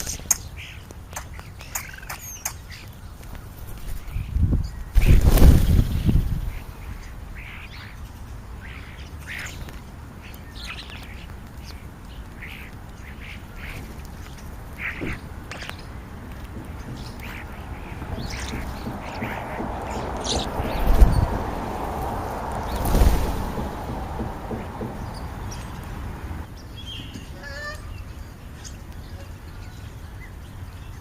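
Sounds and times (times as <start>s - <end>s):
wild birds calling: 0.0s - 31.0s.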